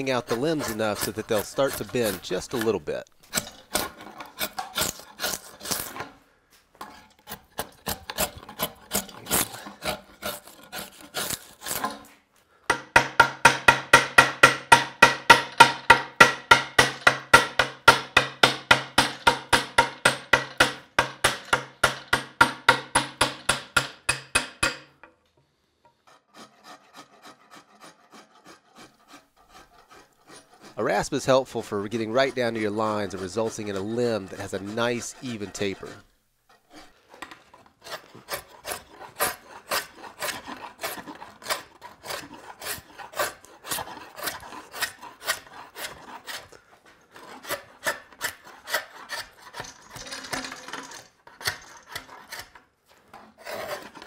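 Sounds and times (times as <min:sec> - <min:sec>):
rasp strokes on wood: 0:00.0 - 0:06.2, 0:06.8 - 0:12.1, 0:12.7 - 0:24.9, 0:25.9 - 0:54.0.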